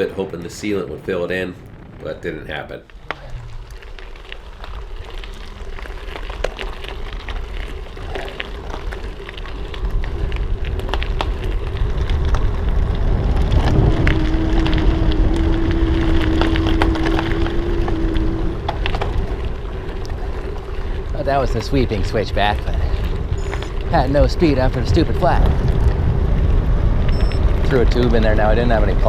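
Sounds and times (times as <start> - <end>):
bike tyres crackling on gravel: 0.0 - 29.0
small stones ticking: 0.0 - 29.0
steady hum: 0.0 - 29.0
wind buffeting camera: 0.0 - 29.0.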